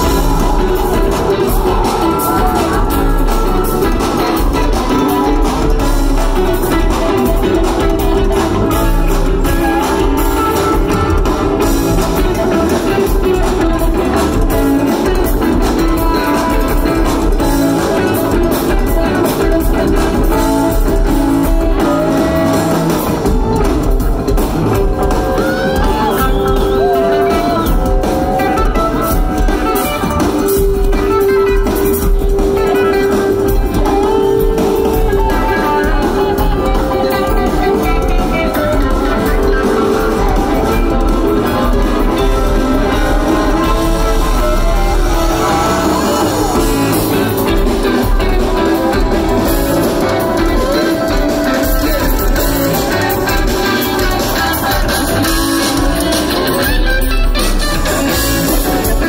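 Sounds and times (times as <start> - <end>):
lap steel guitar: 0.0 - 59.0
live band with guitars: 0.0 - 59.0.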